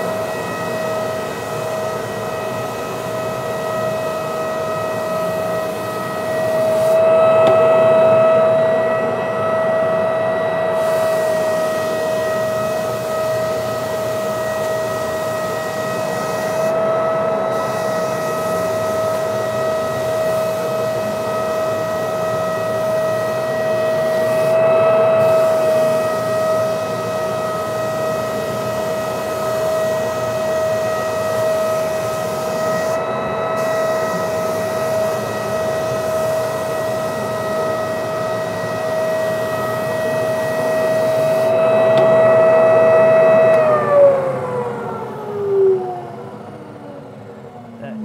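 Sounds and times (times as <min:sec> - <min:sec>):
floor sander running: 0:00.0 - 0:48.0.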